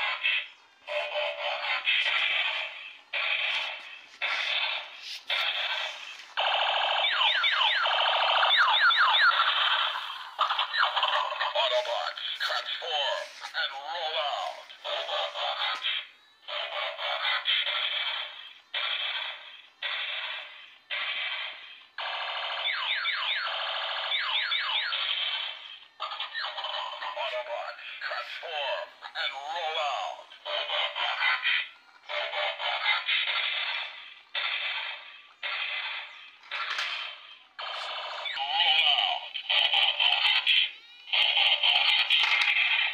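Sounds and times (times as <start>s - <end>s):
laser-gun zaps: 0.0s - 42.9s
toy electronic sound effects: 0.0s - 42.9s.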